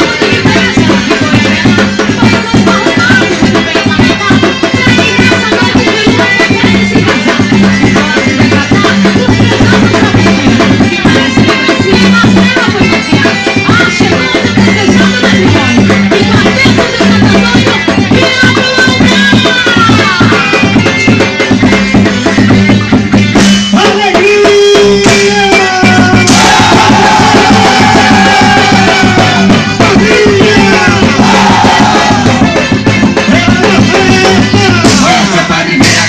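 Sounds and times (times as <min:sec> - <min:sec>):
festive folk music with drumming: 0:00.0 - 0:36.0.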